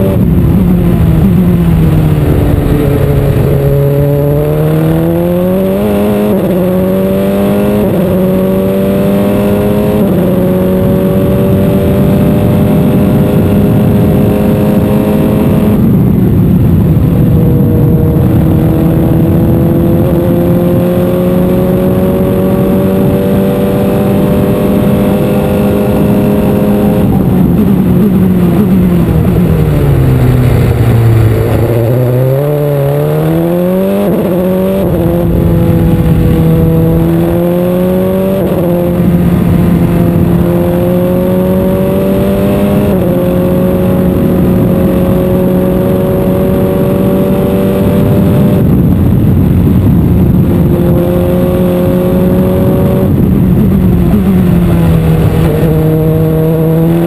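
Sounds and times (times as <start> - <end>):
racing car engine at high revs: 0.0 - 57.0.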